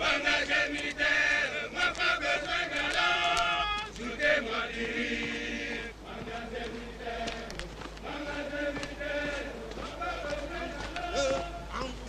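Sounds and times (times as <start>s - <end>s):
men chanting a song together: 0.0s - 12.0s.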